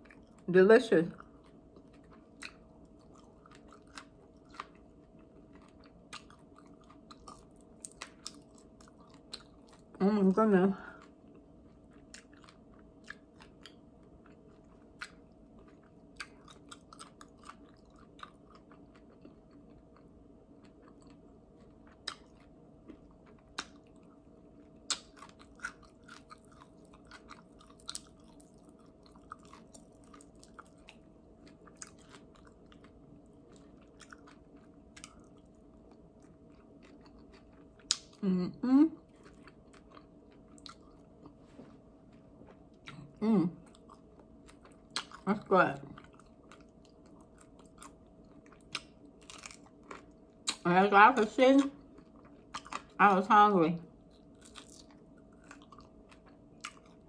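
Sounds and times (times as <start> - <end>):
person chewing food: 0.0 - 0.5, 1.2 - 10.0, 10.8 - 38.2, 39.0 - 50.6, 51.6 - 53.0, 54.0 - 57.0
faint steady hum: 0.0 - 57.0.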